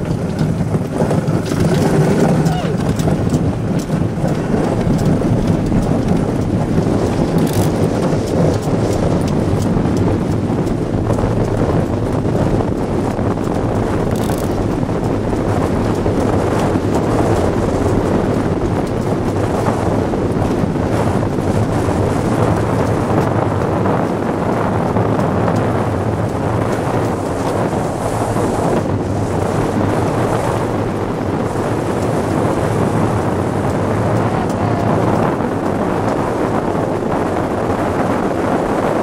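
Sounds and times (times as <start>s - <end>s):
runners sliding over ice: 0.0s - 37.4s
wind buffeting microphone: 0.0s - 39.0s.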